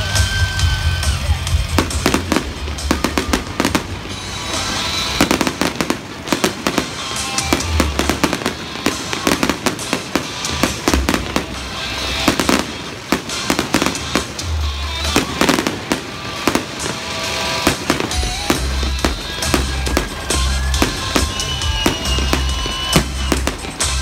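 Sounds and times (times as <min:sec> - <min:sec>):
fireworks bangs and crackles: 0:00.0 - 0:24.0
music with heavy bass: 0:00.0 - 0:24.0.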